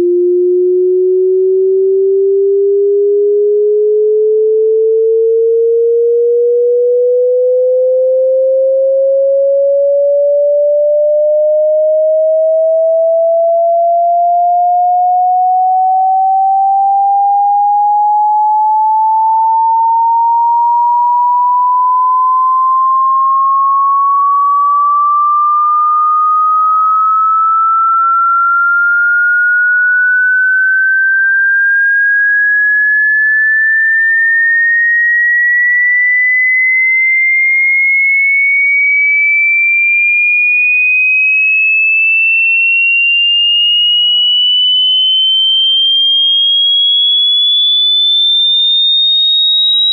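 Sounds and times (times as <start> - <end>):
rising electronic sine tone: 0.0 - 49.9.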